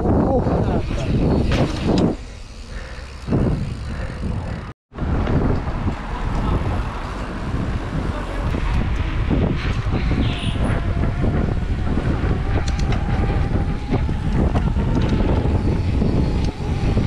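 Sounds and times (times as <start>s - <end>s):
bike tyre and trail noise: 0.0s - 17.0s
wind rumbling over microphone: 0.0s - 17.0s.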